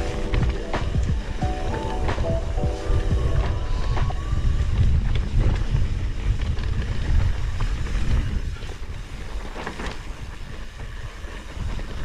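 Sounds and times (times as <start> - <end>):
bike rattling on dirt trail: 0.0 - 12.0
wind buffeting microphone: 0.0 - 12.0.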